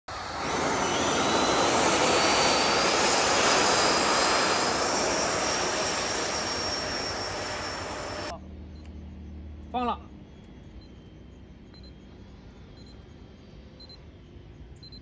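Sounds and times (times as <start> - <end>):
electric ducted fans whining: 0.1 - 14.8.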